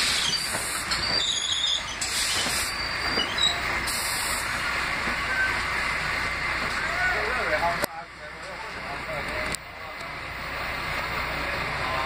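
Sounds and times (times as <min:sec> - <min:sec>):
subway wheels rumbling on rail: 0:00.0 - 0:12.0.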